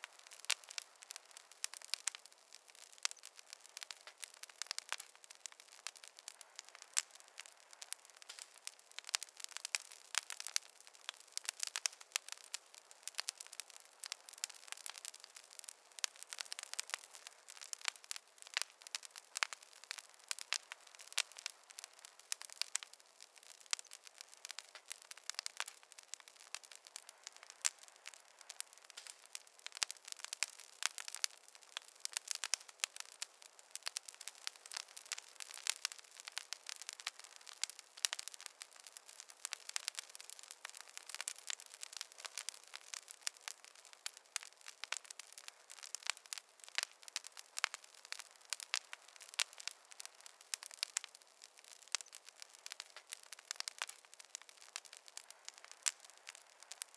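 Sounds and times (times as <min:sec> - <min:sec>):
soft hiss: 0:00.0 - 0:56.9
wood fire crackling: 0:00.0 - 0:56.9.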